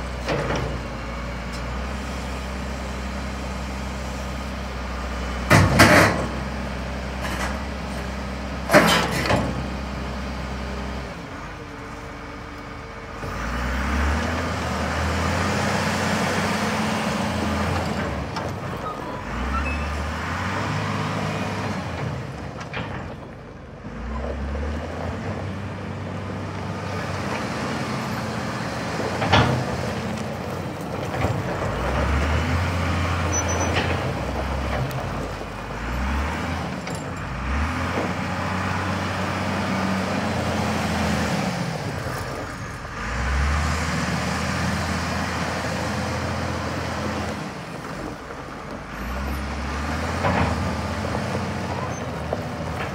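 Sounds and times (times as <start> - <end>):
diesel engine revving: 0.0 - 52.9.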